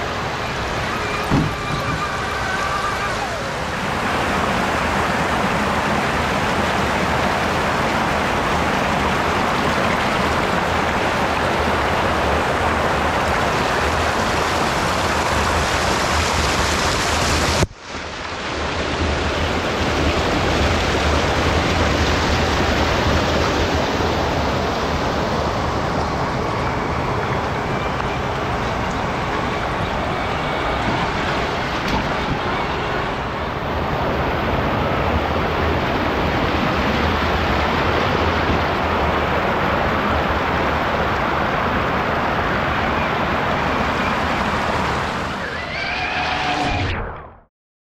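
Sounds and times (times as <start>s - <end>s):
creek water rushing and splashing: 0.0s - 46.5s.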